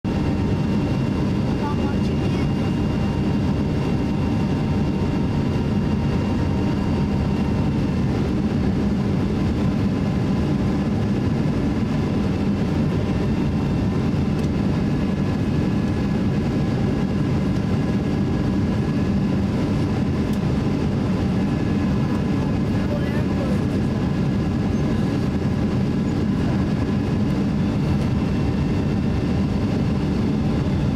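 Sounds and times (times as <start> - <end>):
jet engines running: 0.1 - 30.9.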